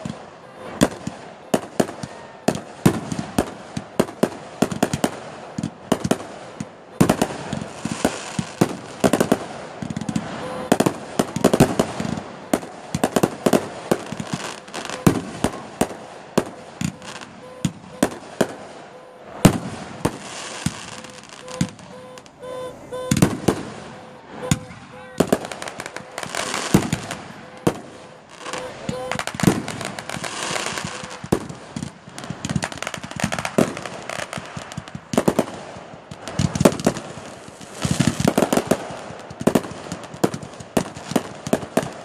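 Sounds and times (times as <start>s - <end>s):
fireworks bangs and pops: 0.0s - 42.0s
fireworks crackling: 0.0s - 42.0s.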